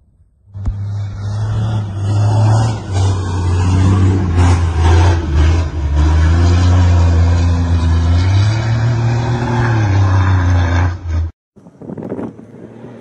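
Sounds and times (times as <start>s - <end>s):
truck diesel engine revving: 0.6s - 11.3s.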